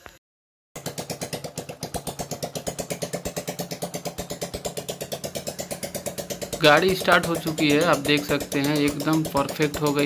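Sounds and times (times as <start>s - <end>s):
motorcycle engine idling: 0.8s - 10.0s.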